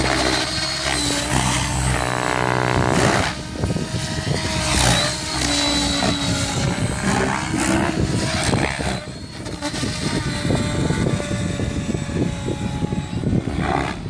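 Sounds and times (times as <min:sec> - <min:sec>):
electric motor whining: 0:00.0 - 0:14.0
helicopter rotor blades whooshing: 0:00.0 - 0:14.0.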